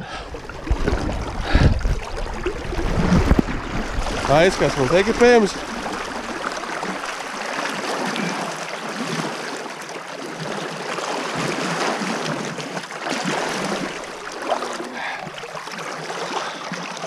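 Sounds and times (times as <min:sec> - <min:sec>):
river water rushing and splashing: 0:00.0 - 0:17.0.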